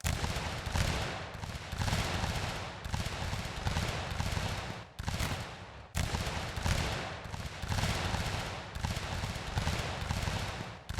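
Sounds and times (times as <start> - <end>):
muskets firing in a volley: 0.0 - 10.9.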